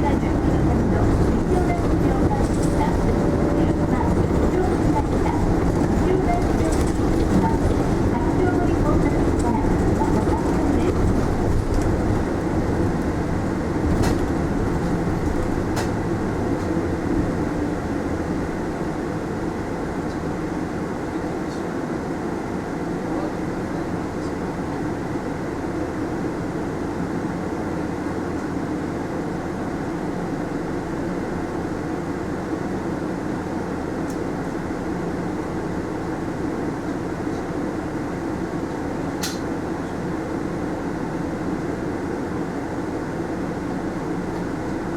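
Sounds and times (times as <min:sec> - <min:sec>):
bus engine and road noise: 0:00.0 - 0:44.9.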